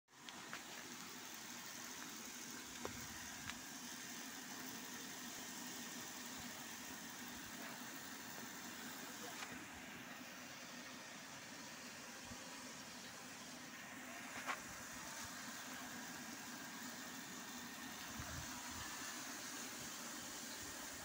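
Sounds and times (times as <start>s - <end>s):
even hiss: 0.2s - 21.0s.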